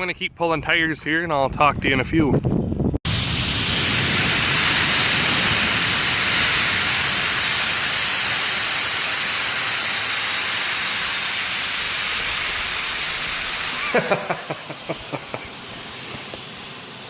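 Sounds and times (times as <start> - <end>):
air hissing out of tire: 3.1 - 17.0.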